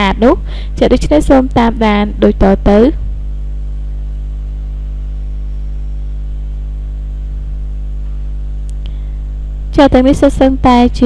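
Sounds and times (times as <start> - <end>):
electrical hum and buzz: 0.0 - 11.0.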